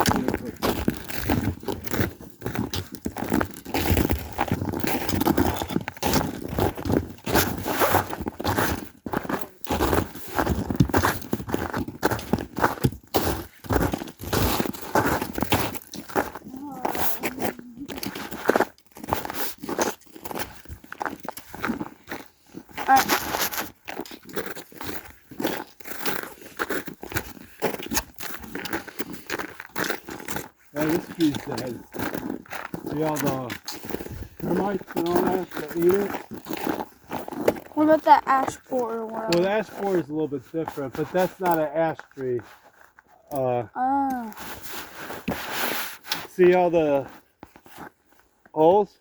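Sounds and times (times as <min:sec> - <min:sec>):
footsteps on a trail: 0:00.0 - 0:48.6.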